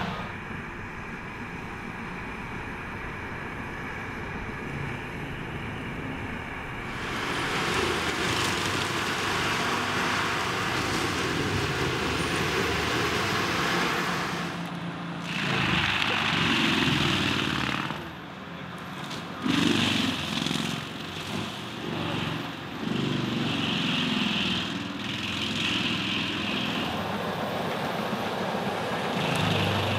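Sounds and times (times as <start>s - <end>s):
diesel tractor engine running: 0.0s - 29.9s.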